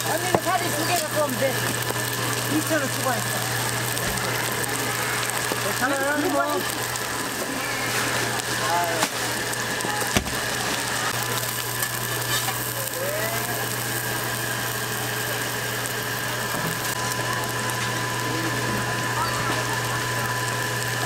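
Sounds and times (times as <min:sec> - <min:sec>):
low machine hum: 0:00.0 - 0:21.0
pancakes sizzling in oil: 0:00.0 - 0:21.0.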